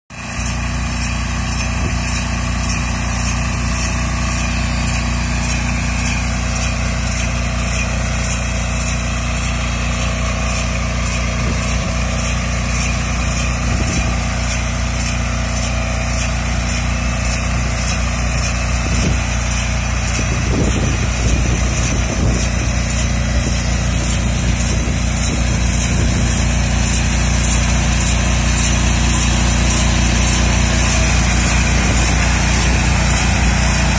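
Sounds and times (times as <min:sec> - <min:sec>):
small tractor engine running: 0:00.1 - 0:33.9.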